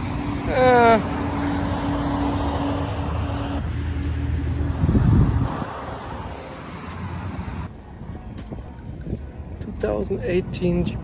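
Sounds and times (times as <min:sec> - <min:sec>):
low vehicle rumble: 0:00.0 - 0:11.0
vehicle engine humming: 0:00.0 - 0:11.0.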